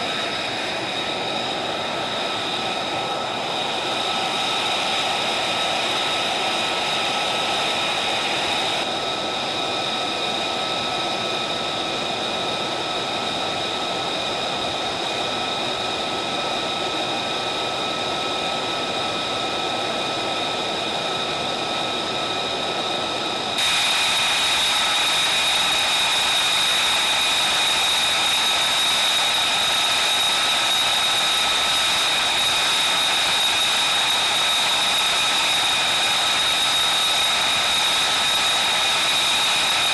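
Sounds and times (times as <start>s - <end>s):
jet engine idling whine: 0.0s - 39.9s.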